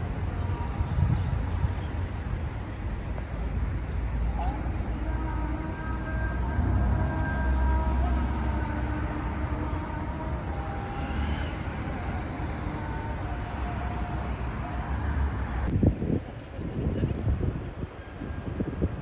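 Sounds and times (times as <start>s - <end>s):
faint whining tones: 0.0s - 15.7s
vehicle engine rumble: 0.0s - 19.0s.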